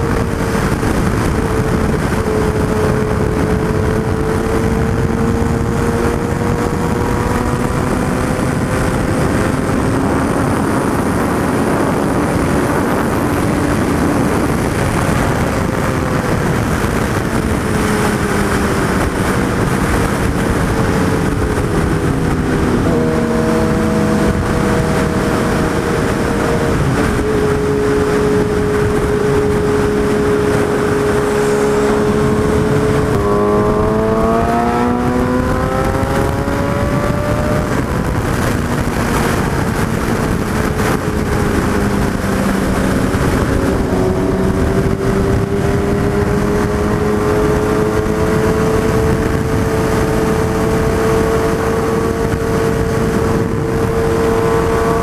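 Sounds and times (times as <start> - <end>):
motorcycle engine at speed: 0.0 - 55.0
wind rush over microphone: 0.0 - 55.0.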